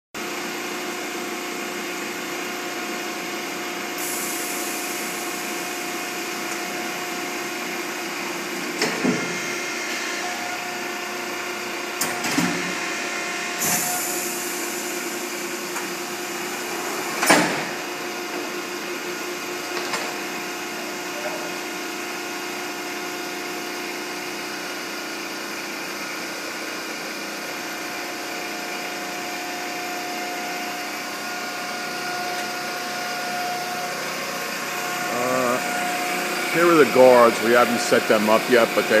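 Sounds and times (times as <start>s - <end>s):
hydraulic pump motor hum: 3.6s - 39.0s.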